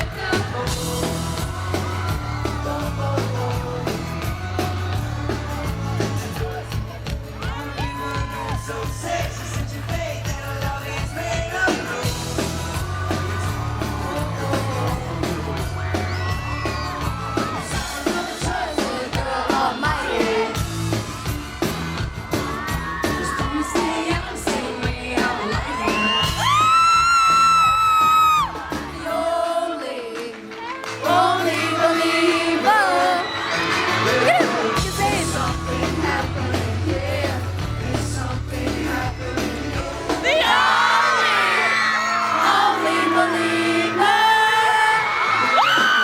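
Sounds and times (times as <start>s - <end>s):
men singing through a pa: 0.0s - 6.6s, 7.5s - 16.2s, 17.7s - 20.7s, 23.3s - 26.5s, 29.0s - 41.2s, 42.3s - 45.4s
fans whooping and yelling: 0.0s - 29.8s, 30.5s - 38.2s, 38.8s - 46.0s
live pop band playing: 0.0s - 46.0s.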